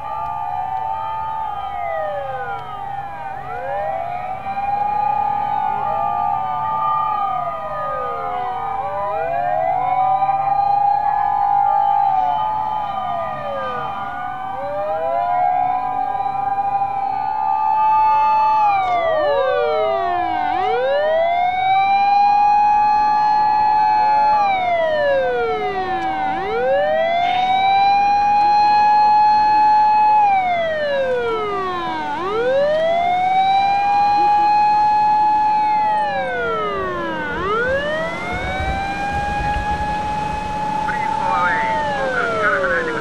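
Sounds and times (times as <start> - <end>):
fire engine sirens wailing: 0.0 - 43.0.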